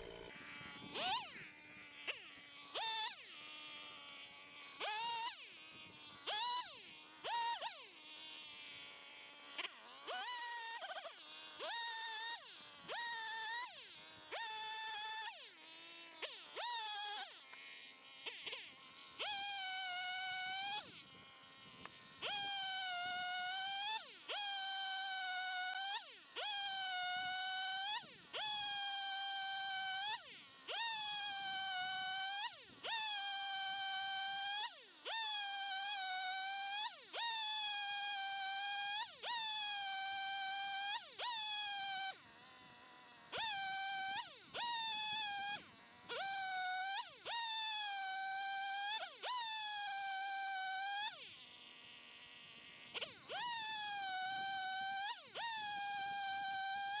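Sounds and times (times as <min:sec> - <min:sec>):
chainsaw cutting firewood: 0:00.0 - 0:57.0.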